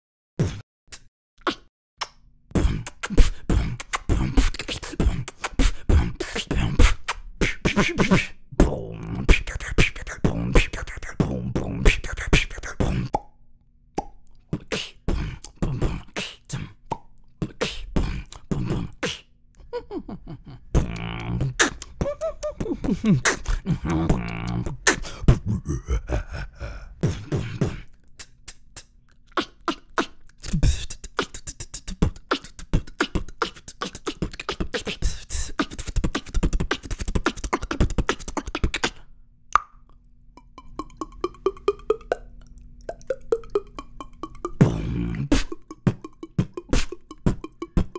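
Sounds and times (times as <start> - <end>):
beatboxed drum beats: 0.4 - 13.2, 14.0 - 19.2, 20.8 - 25.8, 27.0 - 39.0, 40.4 - 42.2, 43.0 - 47.9
beatboxed water-drop plops: 0.4 - 13.3, 14.0 - 16.3, 20.8 - 25.4, 27.0 - 39.0, 40.4 - 47.9
beatboxing clicks and pops: 0.4 - 13.4, 14.0 - 19.3, 20.8 - 25.5, 27.0 - 47.9.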